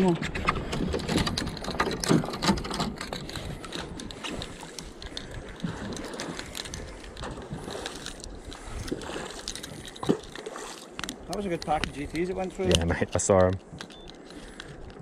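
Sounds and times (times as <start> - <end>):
fishing tackle clicking and rattling: 0.5 - 15.0.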